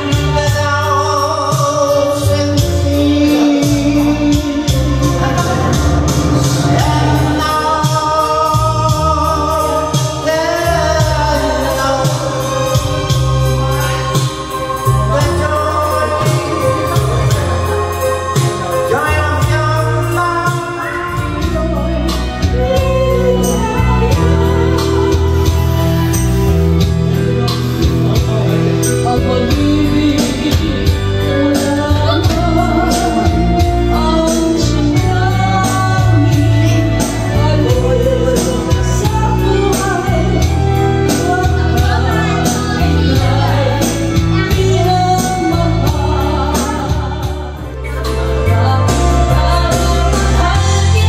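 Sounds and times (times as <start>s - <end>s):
backing track with steady beat: 0.0s - 51.0s
woman singing karaoke: 0.0s - 51.0s.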